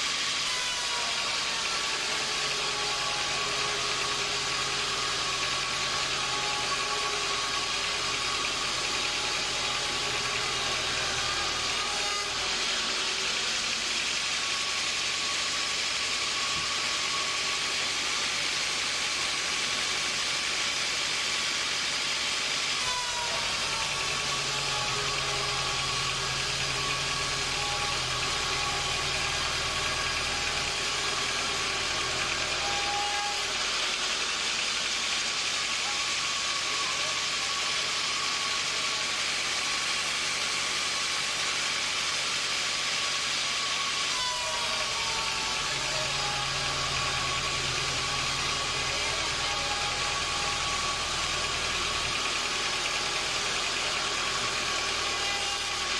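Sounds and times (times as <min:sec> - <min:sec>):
falling machine whine: 0:00.0 - 0:55.9
sawmill engine hum: 0:00.0 - 0:55.9.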